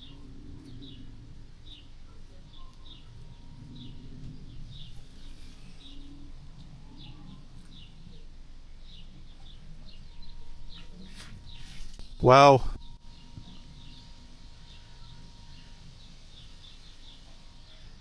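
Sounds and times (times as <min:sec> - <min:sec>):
low murmur: 0:00.0 - 0:18.0
small bird chirping: 0:00.0 - 0:18.0.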